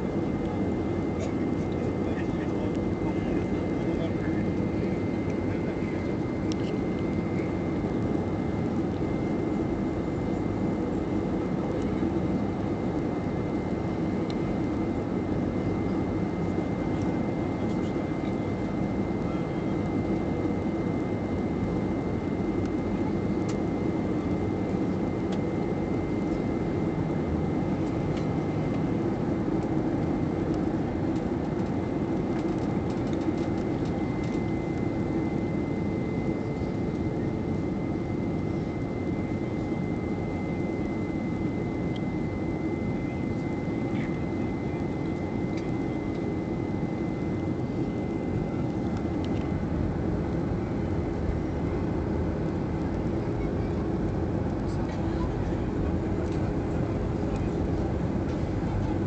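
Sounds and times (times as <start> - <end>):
airplane engine and airflow drone: 0.0 - 59.0
high steady whine: 0.0 - 59.0.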